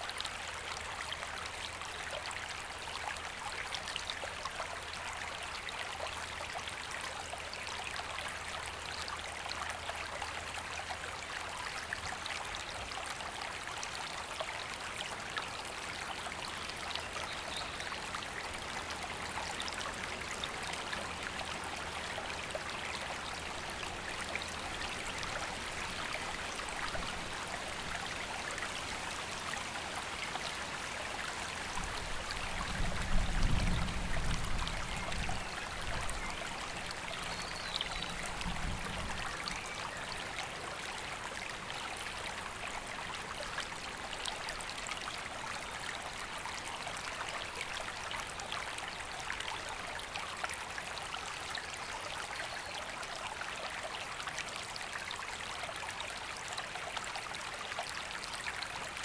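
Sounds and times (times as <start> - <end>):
river water flowing over stones: 0.0 - 59.0.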